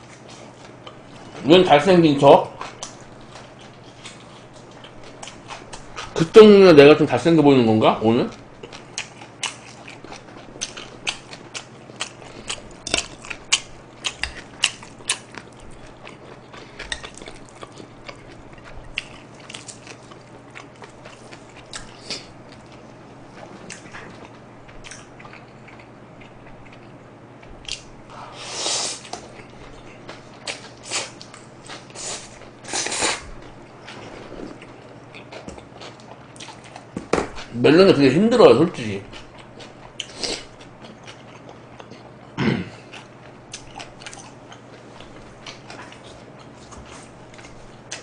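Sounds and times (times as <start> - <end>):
chewing food: 0.0 - 6.4, 8.2 - 27.9, 29.0 - 37.6, 39.0 - 48.0.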